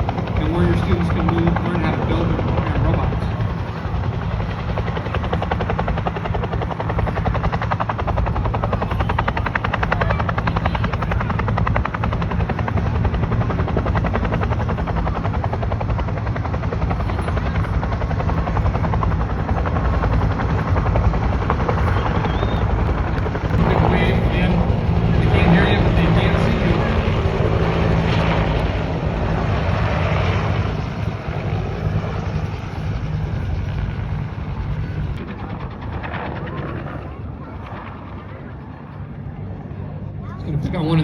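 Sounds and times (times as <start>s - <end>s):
helicopter engine drone: 0.0s - 41.0s
helicopter rotor chopping: 0.0s - 41.0s.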